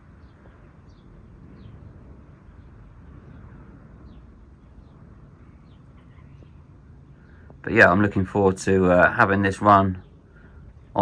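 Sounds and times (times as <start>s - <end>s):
birds chirping: 0.0s - 11.0s
faint background hum: 0.0s - 11.0s.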